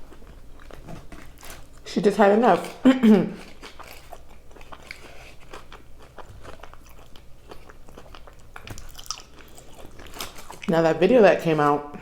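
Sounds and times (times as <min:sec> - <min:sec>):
person chewing food: 0:00.0 - 0:10.7.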